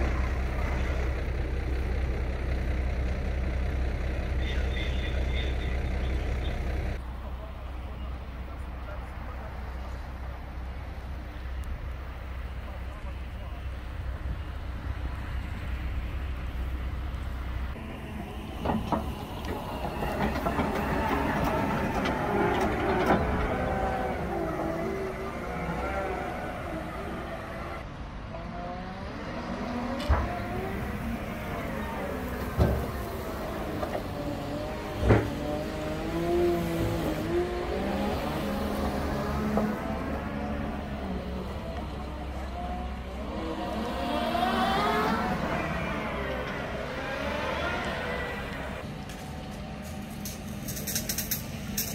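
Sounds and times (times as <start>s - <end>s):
diesel engine running: 0.0s - 27.9s, 30.0s - 51.9s.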